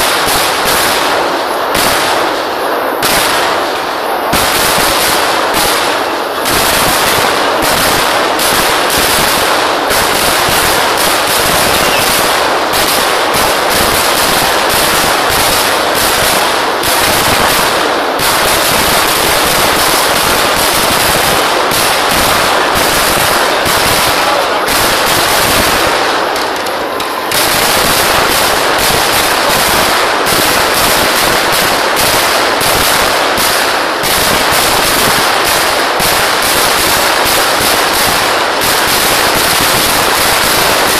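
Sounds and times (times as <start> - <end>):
firecracker bangs barrage: 0.0 - 40.9.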